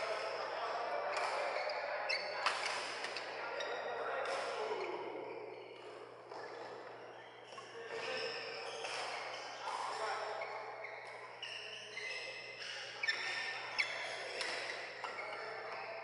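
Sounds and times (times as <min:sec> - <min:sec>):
indistinct voices echoing: 0:00.0 - 0:16.0.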